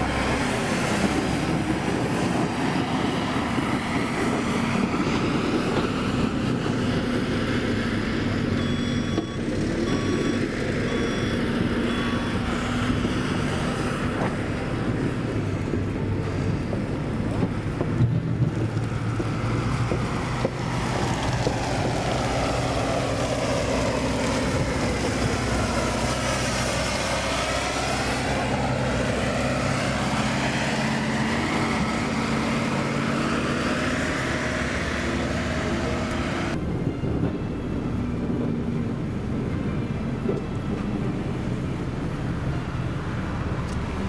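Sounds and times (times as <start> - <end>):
road noise: 0.0 - 44.0.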